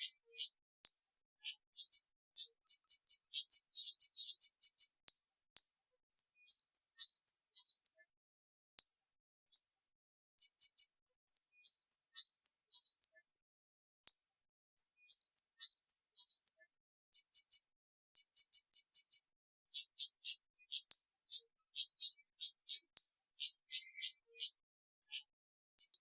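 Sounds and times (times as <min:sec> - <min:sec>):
bird chirping: 0:00.0 - 0:08.1, 0:08.8 - 0:13.3, 0:14.1 - 0:26.0.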